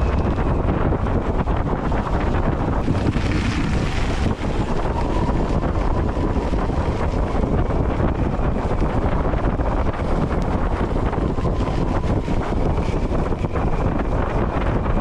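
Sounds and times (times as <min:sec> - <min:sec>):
wheels rolling over gravel: 0:00.0 - 0:14.7
wind rumble on microphone: 0:00.0 - 0:15.0.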